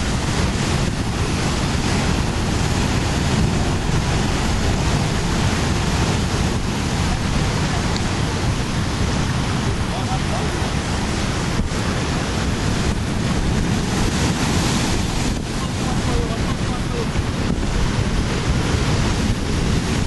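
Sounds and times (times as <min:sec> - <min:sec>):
surf breaking on rocks: 0:00.0 - 0:20.0
wind buffeting microphone: 0:00.0 - 0:20.0.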